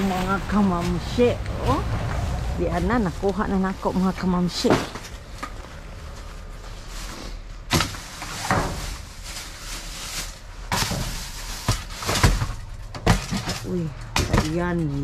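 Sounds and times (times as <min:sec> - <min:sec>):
scraping and rustling: 0:00.0 - 0:14.0.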